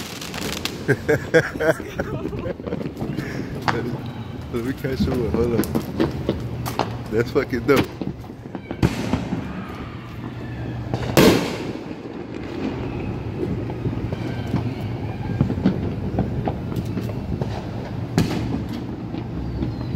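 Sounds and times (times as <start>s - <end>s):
steady low rumble: 0.0s - 19.7s
firework bangs: 0.0s - 19.9s
firework crackles: 0.0s - 19.9s.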